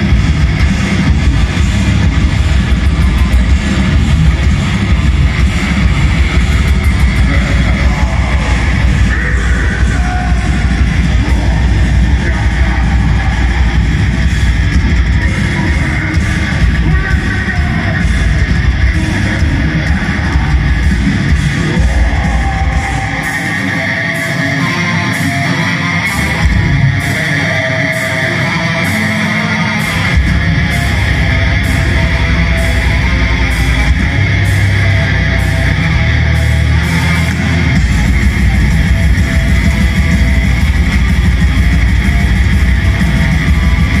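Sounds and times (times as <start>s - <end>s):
distorted electric guitars: 0.0s - 44.0s
drums: 0.0s - 44.0s.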